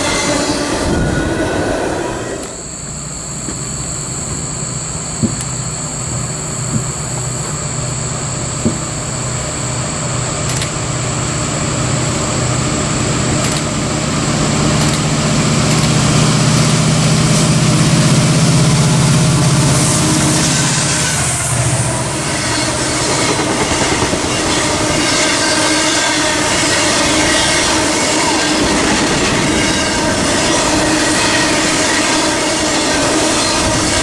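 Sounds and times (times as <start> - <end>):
diesel locomotive engines droning: 0.0 - 34.0.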